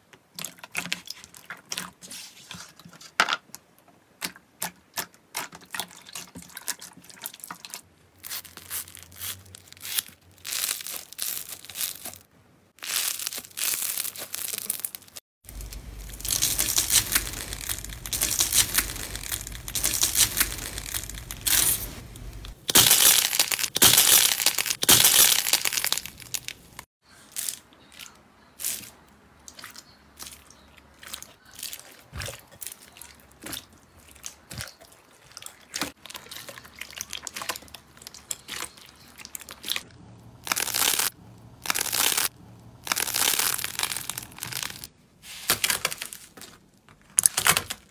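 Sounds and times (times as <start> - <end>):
slime squelching and crackling: 4.2 - 44.9.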